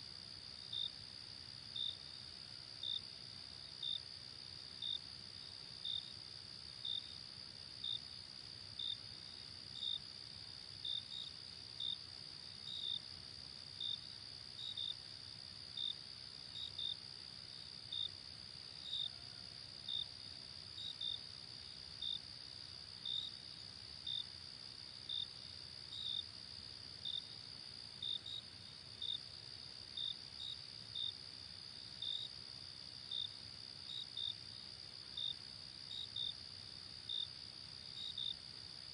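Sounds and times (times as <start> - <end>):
single cricket chirp: 0.0 - 38.9.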